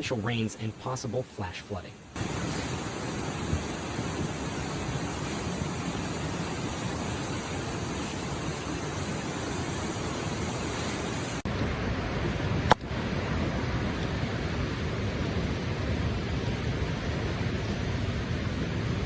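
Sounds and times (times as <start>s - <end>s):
rushing floodwater: 0.0s - 19.0s.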